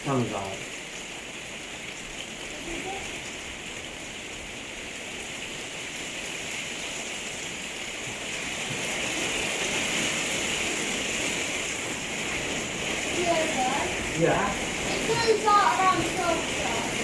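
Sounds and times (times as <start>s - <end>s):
torrential rain pouring: 0.0s - 17.0s.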